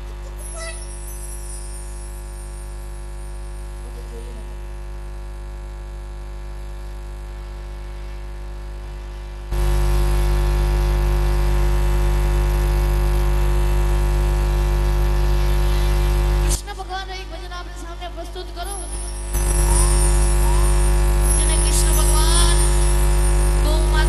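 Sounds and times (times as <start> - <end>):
electrical mains hum and buzz: 0.0 - 24.0.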